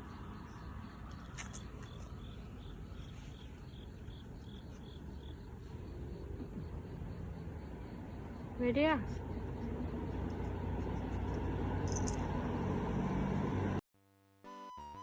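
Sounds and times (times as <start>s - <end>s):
insects chirping: 0.0s - 12.8s
low outdoor rumble: 0.0s - 13.8s.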